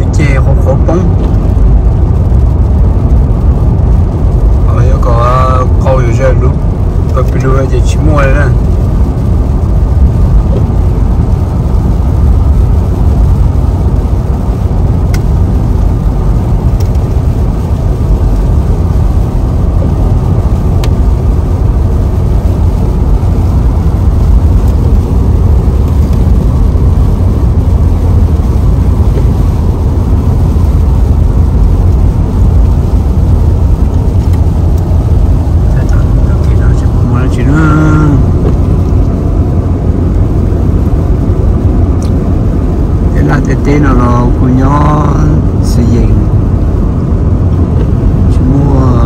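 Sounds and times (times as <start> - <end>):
road and engine noise inside car: 0.0 - 49.0.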